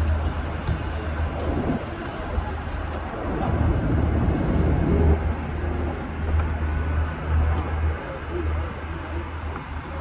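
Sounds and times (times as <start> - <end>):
aerial cable car rumble: 0.0 - 10.0.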